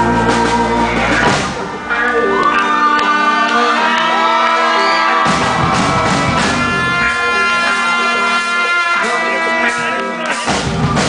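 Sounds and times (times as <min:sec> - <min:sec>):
voices whooping and shouting: 0:00.0 - 0:10.5
live band playing: 0:00.0 - 0:11.0.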